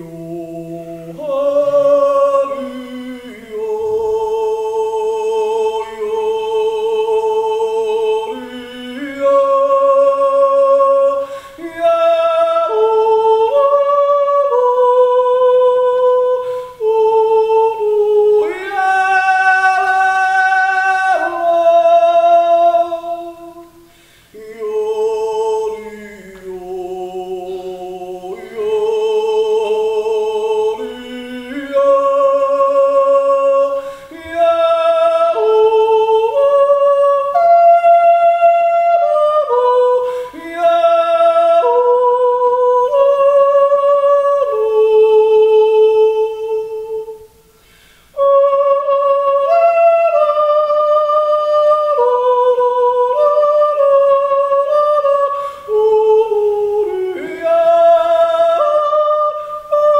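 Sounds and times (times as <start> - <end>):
man yodeling: 0.0 - 23.8, 24.4 - 47.4, 48.2 - 59.9.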